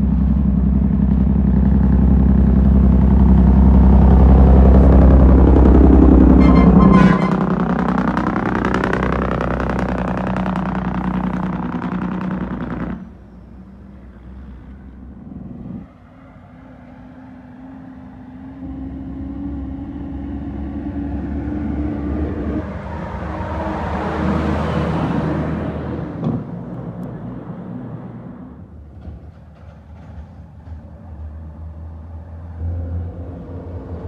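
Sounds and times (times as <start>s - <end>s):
dump trucks driving past: 0.0s - 34.0s.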